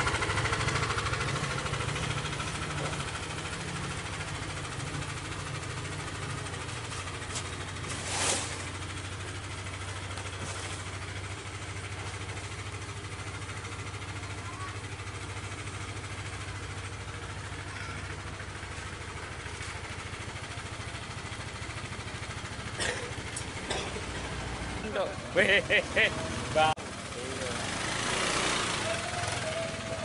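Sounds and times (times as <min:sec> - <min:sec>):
scooter engine idling: 0:00.0 - 0:30.0.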